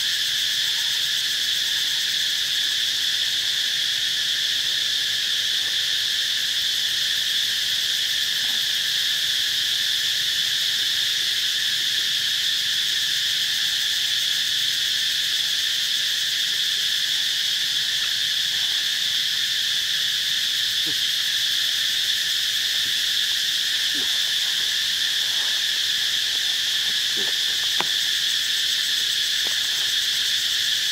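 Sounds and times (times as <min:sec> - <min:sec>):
insect chorus drone: 0:00.0 - 0:30.9.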